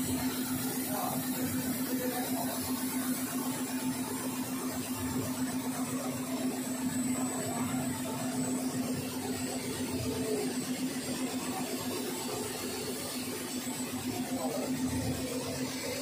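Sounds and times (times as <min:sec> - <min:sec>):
machine rollers whirring: 0:00.0 - 0:16.0
steady machine hum: 0:00.0 - 0:16.0.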